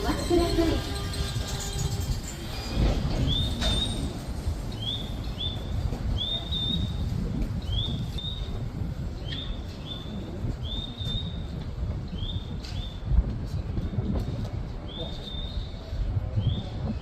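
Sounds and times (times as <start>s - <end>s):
steady low rumble: 1.4s - 17.0s.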